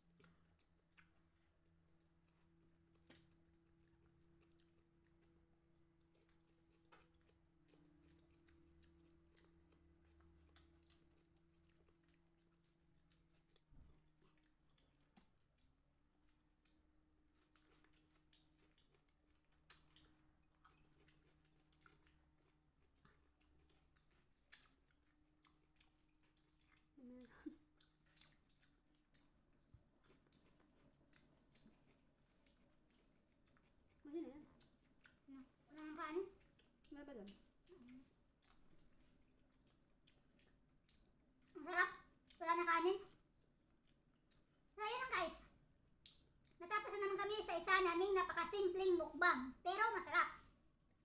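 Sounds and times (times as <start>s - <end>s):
people chewing: 0.0s - 51.0s.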